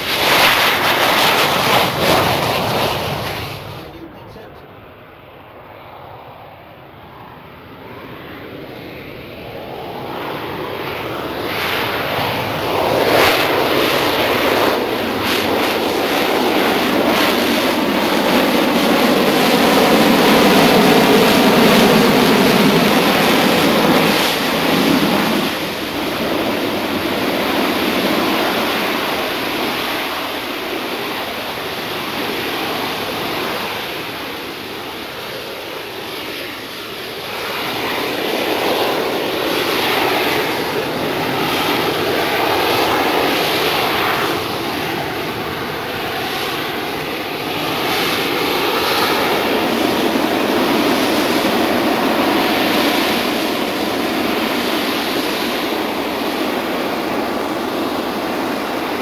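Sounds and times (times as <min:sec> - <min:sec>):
jet roar flying past: 0:00.0 - 0:59.0.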